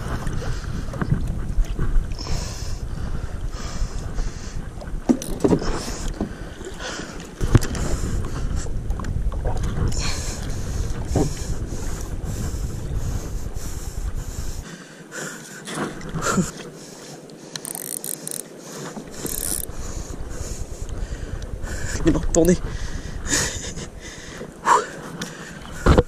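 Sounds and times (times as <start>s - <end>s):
wind rumbling on microphone: 0.0s - 14.8s, 15.7s - 26.0s
water noise: 0.0s - 26.0s.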